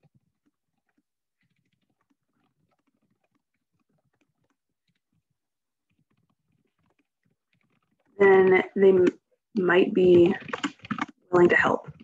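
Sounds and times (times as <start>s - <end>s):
faint keyboard typing: 0.0s - 12.0s.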